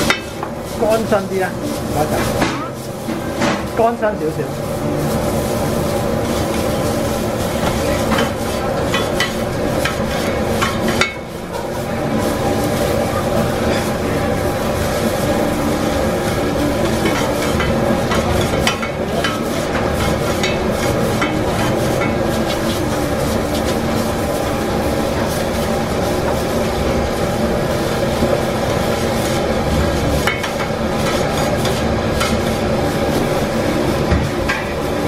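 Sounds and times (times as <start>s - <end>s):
light sizzle: 0.0s - 35.0s
metal spatulas scraping griddle: 4.7s - 27.2s, 28.8s - 35.0s.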